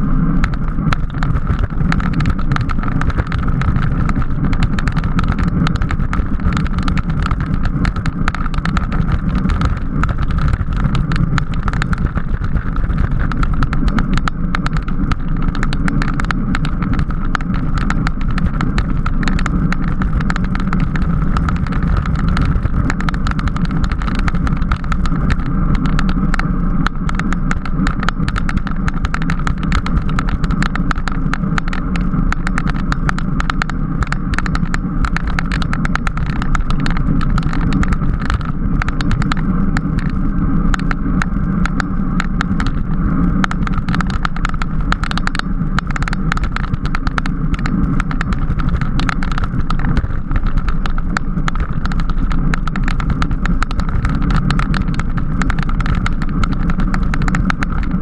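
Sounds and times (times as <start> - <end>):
rapid bicycle clicks and rattles: 0.0 - 58.0
wind and road noise: 0.0 - 58.0.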